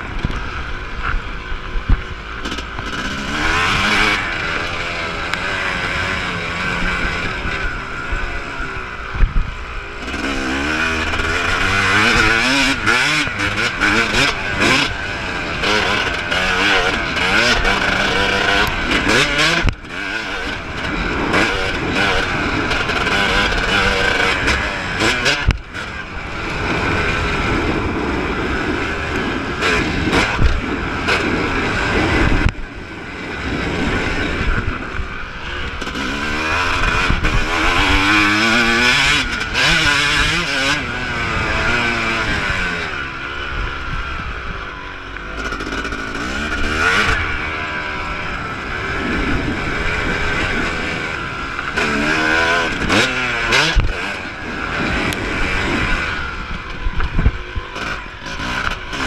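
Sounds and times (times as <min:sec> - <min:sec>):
motorcycle engine revving: 0:00.0 - 0:59.0
wind on microphone: 0:03.1 - 0:59.0.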